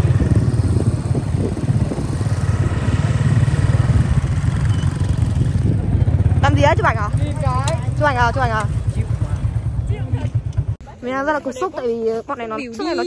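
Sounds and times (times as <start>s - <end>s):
vehicle engine running: 0.0s - 10.8s
road and wind noise: 0.0s - 13.0s.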